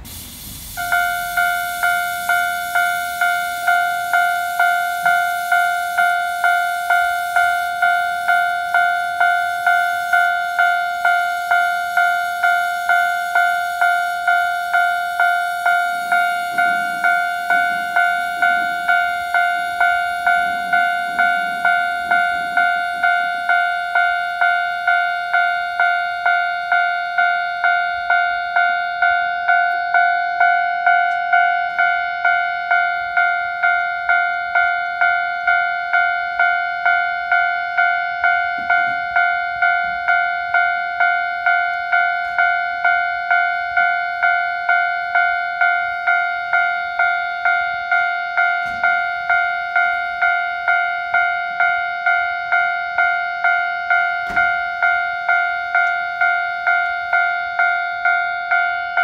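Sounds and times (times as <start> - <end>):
level crossing bell clanging: 0.8 - 59.0.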